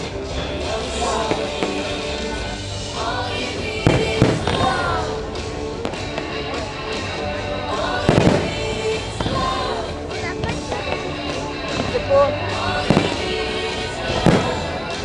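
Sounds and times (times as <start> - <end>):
music: 0.0 - 15.0
fireworks bangs: 0.8 - 2.6, 3.2 - 7.1, 7.8 - 15.0.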